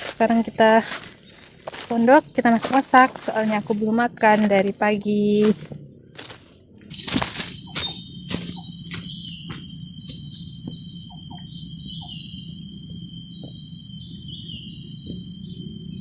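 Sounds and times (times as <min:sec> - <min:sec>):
insect chorus buzzing: 0:00.0 - 0:16.0
pulsing insect call: 0:00.0 - 0:16.0.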